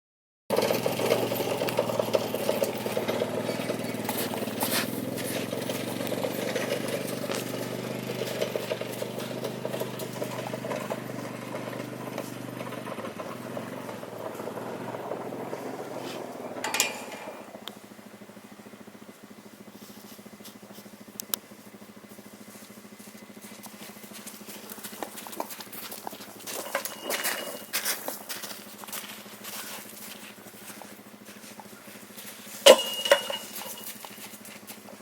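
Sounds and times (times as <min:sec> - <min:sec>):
vehicle engine running: 0:00.5 - 0:35.0.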